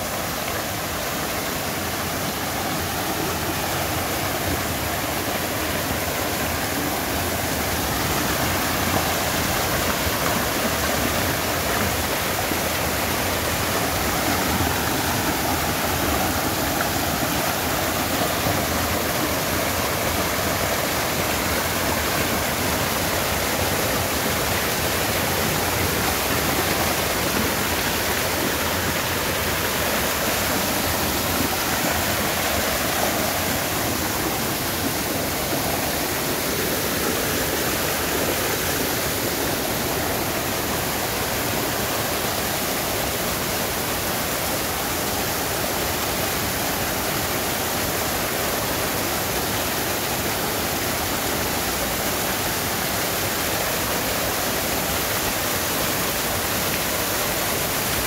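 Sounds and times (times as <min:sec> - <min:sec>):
stream pouring over boulders: 0:00.0 - 0:58.0.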